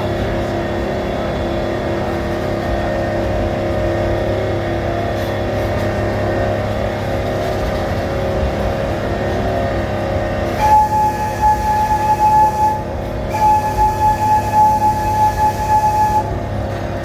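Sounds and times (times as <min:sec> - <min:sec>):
train engine drone: 0:00.0 - 0:17.0.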